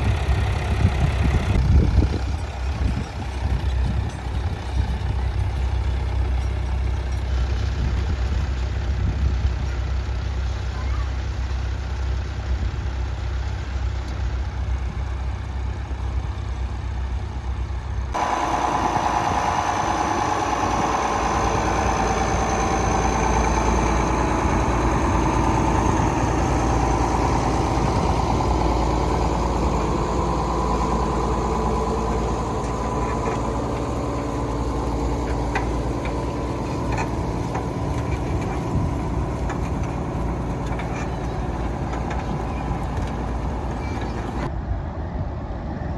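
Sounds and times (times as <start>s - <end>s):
tractor engine running: 0.0s - 44.5s.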